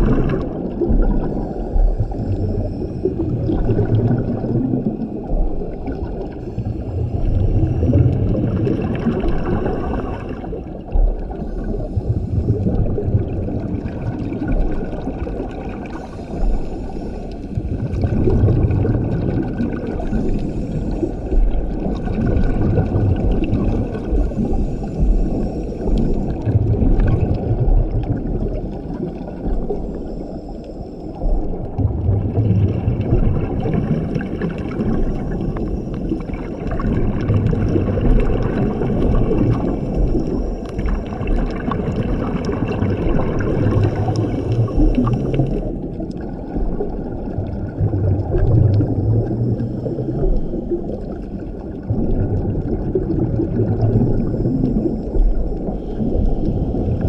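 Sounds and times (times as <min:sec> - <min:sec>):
bubbles gurgling on exhalation: 0:00.0 - 0:30.4, 0:31.2 - 0:57.0.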